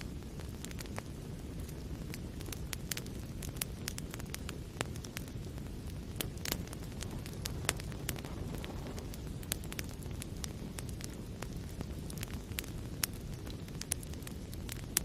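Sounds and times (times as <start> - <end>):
crackles and pops of burning logs: 0.0 - 15.0
low rumble of flames: 0.0 - 15.0.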